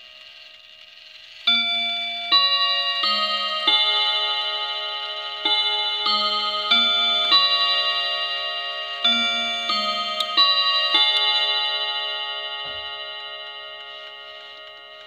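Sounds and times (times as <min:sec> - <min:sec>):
clock chime rods ringing: 0:01.3 - 0:15.0.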